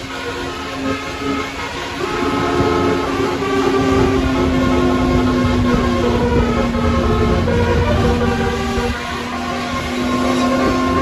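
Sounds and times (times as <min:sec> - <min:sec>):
low engine rumble: 0:00.0 - 0:11.0
musical bus air horn tune: 0:00.0 - 0:11.0.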